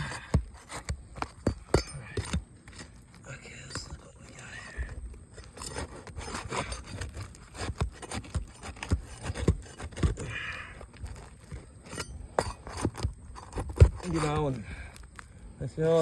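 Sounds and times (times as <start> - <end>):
shingle scraping against roof: 0.0 - 15.0.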